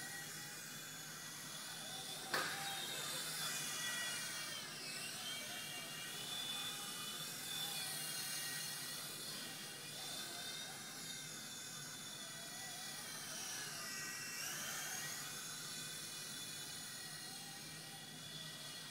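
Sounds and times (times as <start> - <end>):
toy helicopter rotor whining: 0.0 - 18.9.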